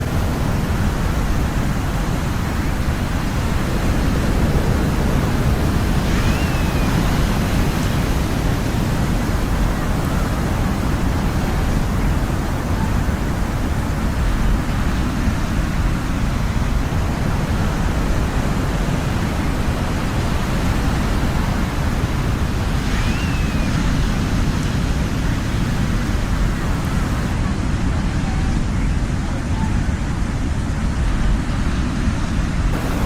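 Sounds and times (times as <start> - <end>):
ocean waves rushing: 0.0 - 29.2, 32.6 - 33.0.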